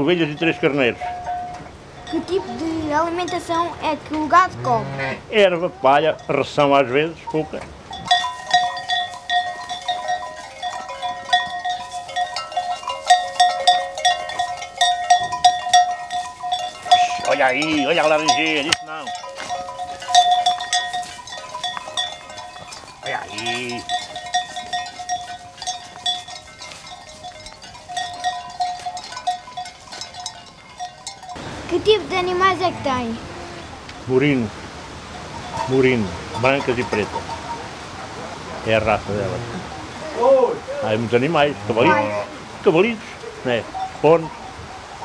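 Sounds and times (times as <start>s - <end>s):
sheep bells clanking: 0.0s - 4.8s, 5.4s - 34.5s, 35.1s - 38.6s, 40.8s - 45.0s.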